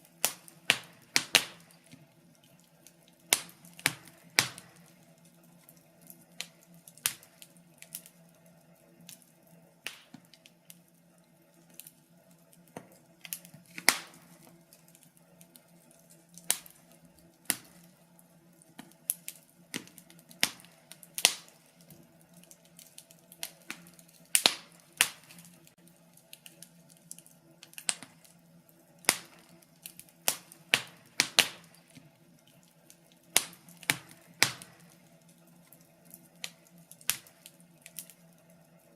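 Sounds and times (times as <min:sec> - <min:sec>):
faint steady hum: 0:00.0 - 0:38.9
wood fire crackling: 0:00.0 - 0:38.9.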